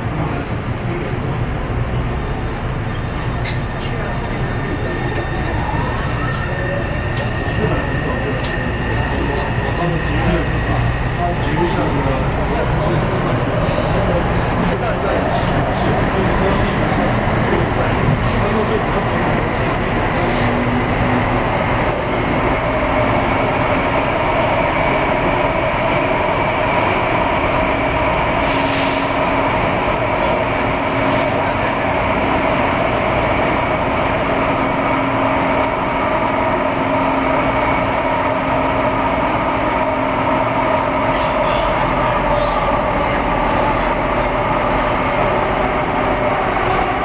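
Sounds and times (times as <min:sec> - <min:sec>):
train wheels rumbling: 0:00.0 - 0:47.0.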